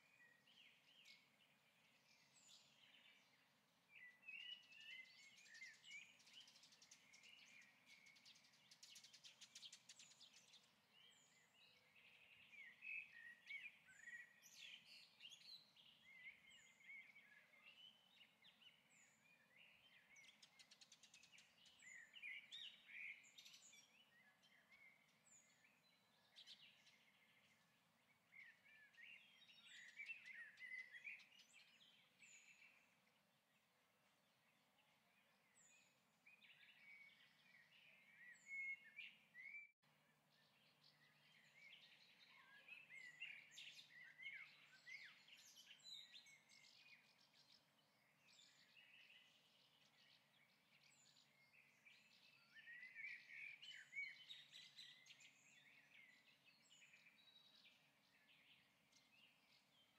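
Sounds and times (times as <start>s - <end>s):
faint birdsong: 0.0s - 59.9s.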